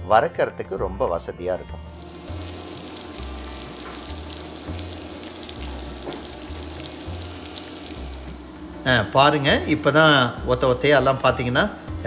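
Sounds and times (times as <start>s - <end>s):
background music with bass: 0.7s - 12.0s
food sizzling in oil: 1.9s - 12.0s.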